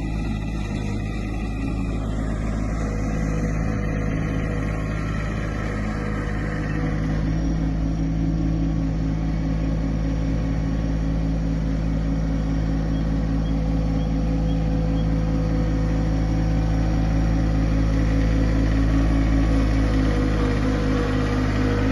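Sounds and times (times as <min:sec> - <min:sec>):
diesel tractor engine running: 0:00.0 - 0:21.9.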